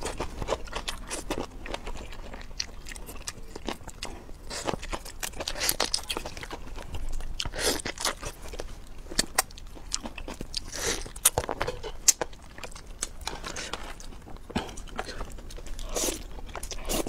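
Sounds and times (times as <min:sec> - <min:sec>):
person crunching and chewing food: 0:00.0 - 0:17.0.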